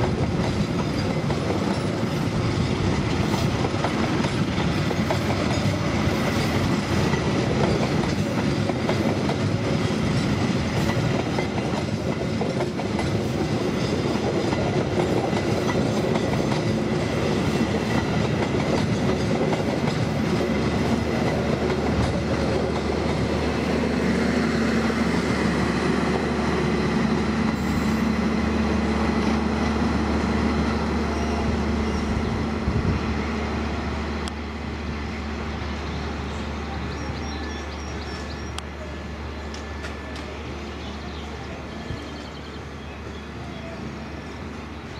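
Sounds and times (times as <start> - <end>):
passenger train passing: 0.0 - 44.9.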